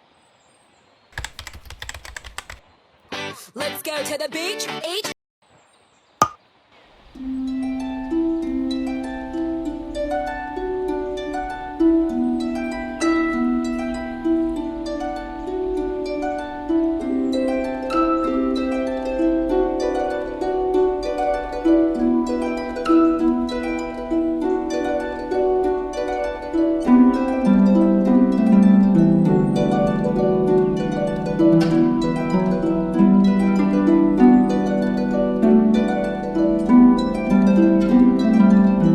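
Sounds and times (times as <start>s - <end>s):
harp melody: 7.2s - 38.9s.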